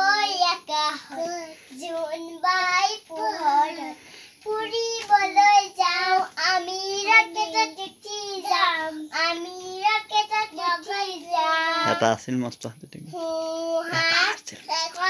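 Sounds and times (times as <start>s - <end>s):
child singing: 0.0s - 12.2s, 13.1s - 15.0s.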